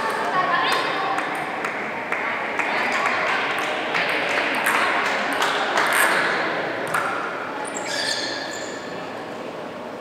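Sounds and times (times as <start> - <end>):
murmur of voices: 0.0 - 10.0.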